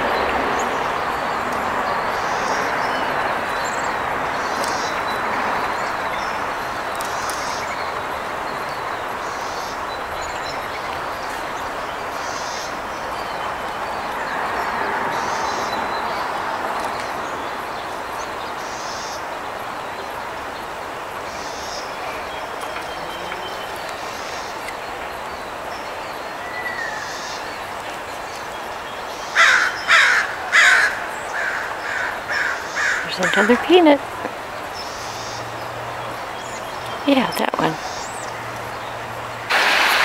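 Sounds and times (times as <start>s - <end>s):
distant traffic rush: 0.0s - 40.0s.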